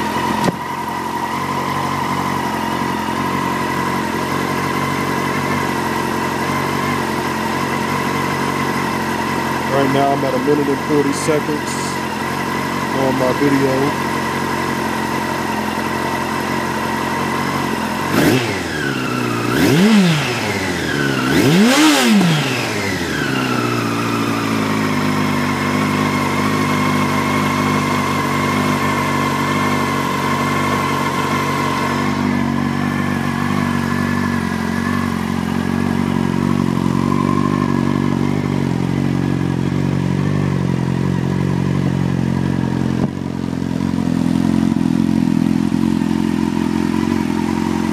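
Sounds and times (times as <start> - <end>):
engine revving: 0.0 - 41.4
motorcycle engine idling: 0.0 - 47.9.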